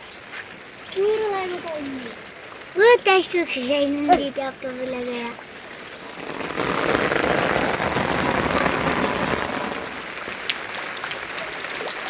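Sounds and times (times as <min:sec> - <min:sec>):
rain pattering densely: 0:00.0 - 0:12.0.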